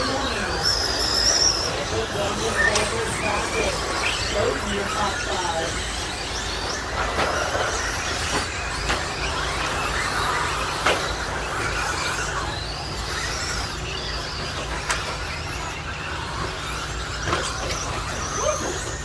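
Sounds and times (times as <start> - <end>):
electric motor whines: 0.0 - 19.0.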